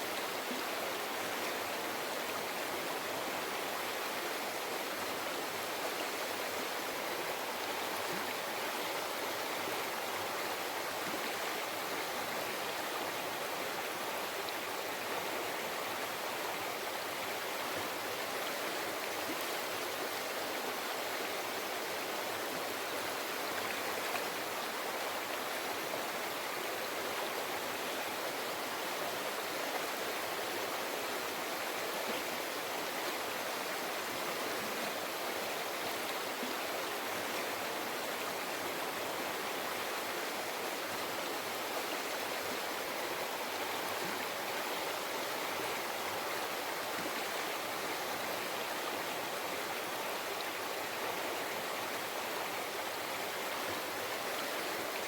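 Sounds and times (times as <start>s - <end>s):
river water babbling over rocks: 0.0s - 55.0s.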